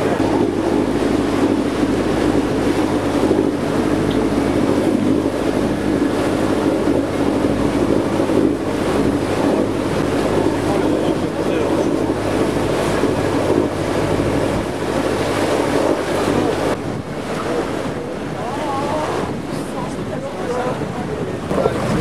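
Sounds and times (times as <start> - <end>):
boat engine humming: 0.0 - 22.0
sea washing along hull: 0.0 - 22.0
wind on microphone: 0.0 - 22.0.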